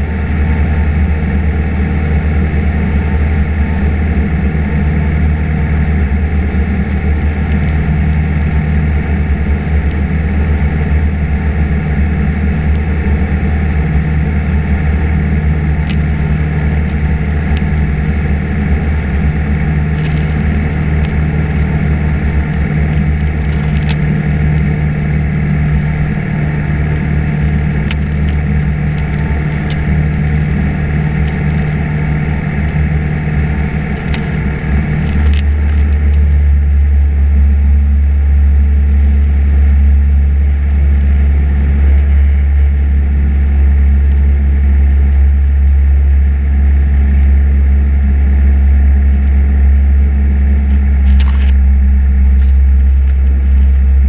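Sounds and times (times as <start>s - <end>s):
propeller aircraft engine droning: 0.0s - 54.0s.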